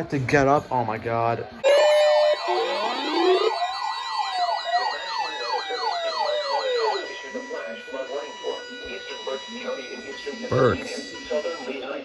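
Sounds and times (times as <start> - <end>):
electronic siren wails and yelps: 1.7 - 11.7
fast high siren warble: 1.7 - 11.7
steady siren tone: 1.7 - 12.0.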